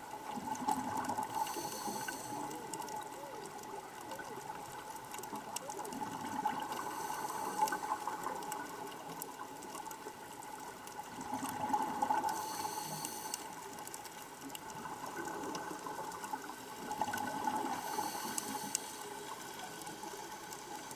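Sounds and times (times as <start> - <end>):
regulator bubbles underwater: 0.0 - 20.9
faint clicks: 0.3 - 20.9.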